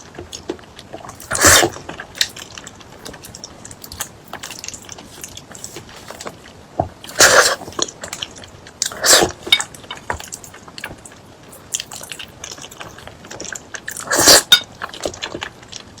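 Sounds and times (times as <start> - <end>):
chewing and crunching food: 0.0 - 16.0.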